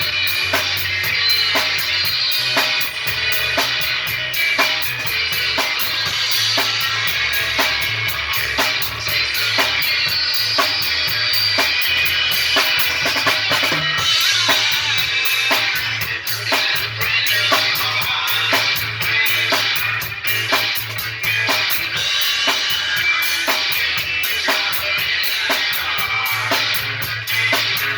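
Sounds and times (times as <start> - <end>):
drum kit beat: 0.0 - 27.9
rock and roll music: 0.0 - 27.9.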